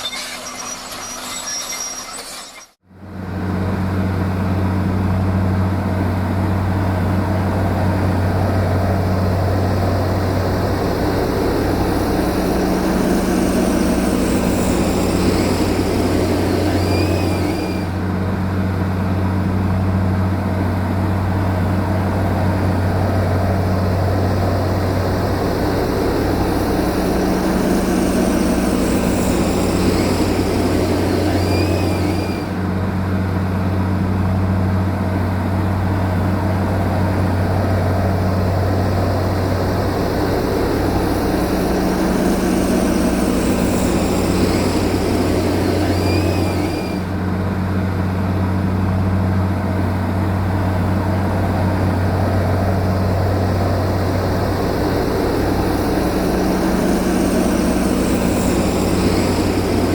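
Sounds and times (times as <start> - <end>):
heavy machine engine droning: 0.0 - 59.9.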